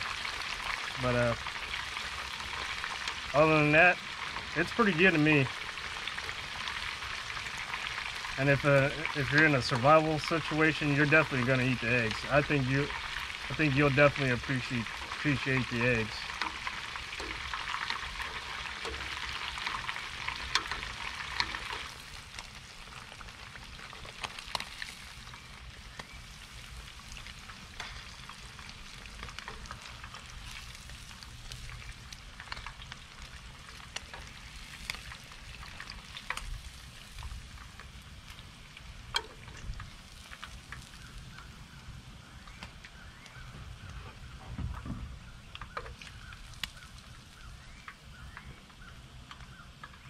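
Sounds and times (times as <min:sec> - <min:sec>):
fish frying in hot oil: 0:00.0 - 0:50.0.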